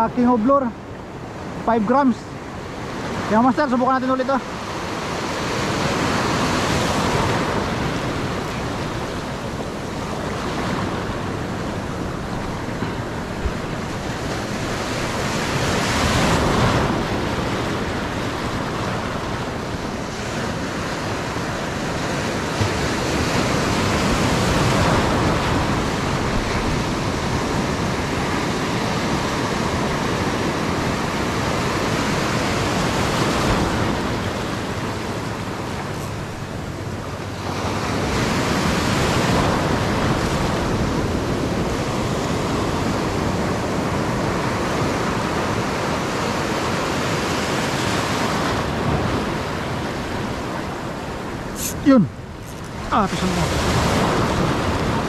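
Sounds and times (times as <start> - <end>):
surf breaking over rocks: 0.0 - 55.0.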